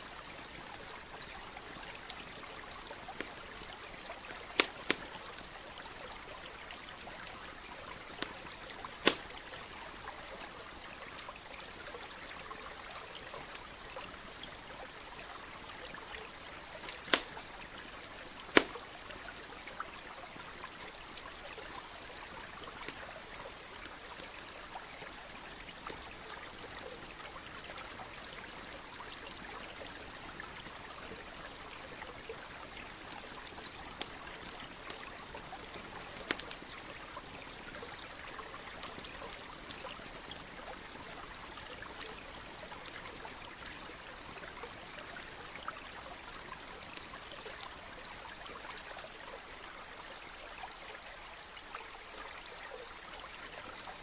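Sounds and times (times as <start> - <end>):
campfire crackling and popping: 0.0 - 51.0
small stream trickling: 0.0 - 54.0.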